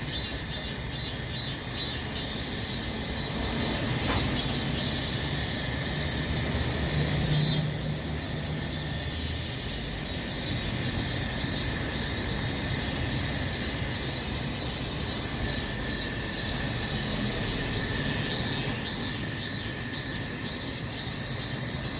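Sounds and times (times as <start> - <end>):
cicadas chorus: 0.0 - 21.9.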